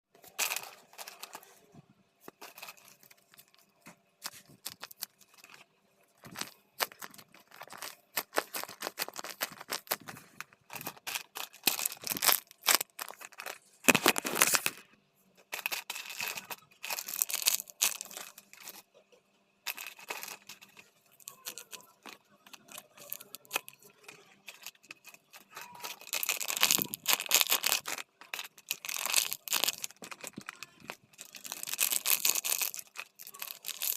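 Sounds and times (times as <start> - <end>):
plastic crinkling and rustling: 0.2 - 18.9, 19.7 - 33.9.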